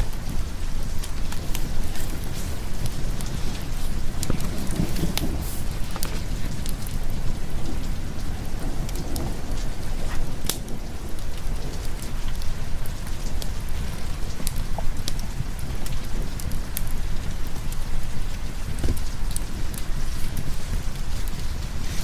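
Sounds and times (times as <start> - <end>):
deep rumble of thunder: 0.0 - 22.0
steady rain: 0.0 - 22.0.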